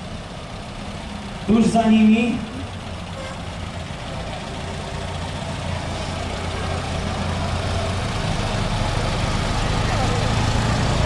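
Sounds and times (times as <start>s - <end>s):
vehicle engines humming at low revs: 0.0s - 11.0s.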